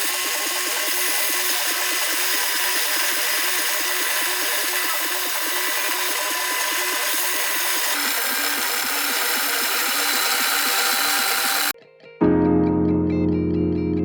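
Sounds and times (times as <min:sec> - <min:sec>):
bandsaw cutting wood: 0:00.0 - 0:11.8.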